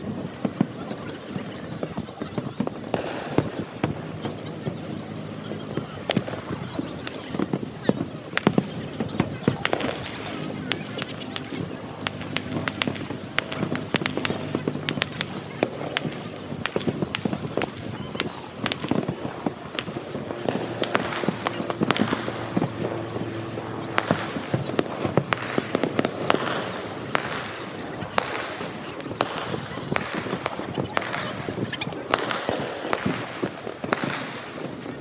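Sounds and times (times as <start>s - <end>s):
fireworks bangs and cracks: 0.0s - 35.0s.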